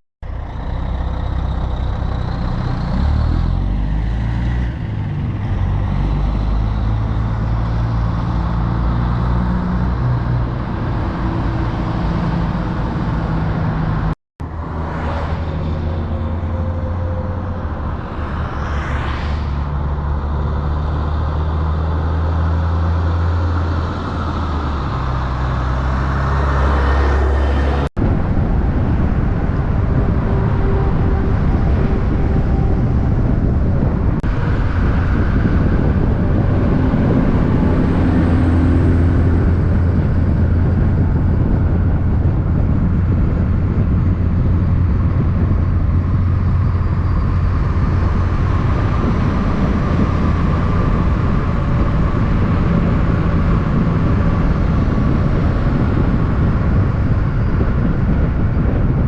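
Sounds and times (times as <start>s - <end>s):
heavy truck engines running: 0.2s - 18.4s, 19.7s - 59.0s
road and traffic noise: 0.2s - 59.0s.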